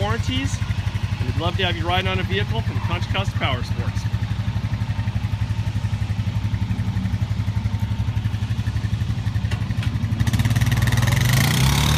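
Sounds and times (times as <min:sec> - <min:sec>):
atv engine idling: 0:00.0 - 0:11.9.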